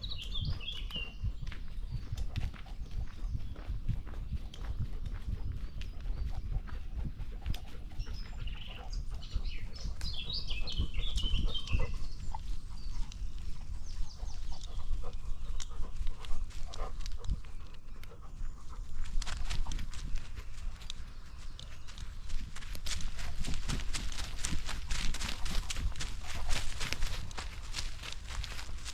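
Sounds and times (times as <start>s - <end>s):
dog footsteps crunching on trail: 0.0s - 28.9s
songbird chirping: 0.0s - 28.9s.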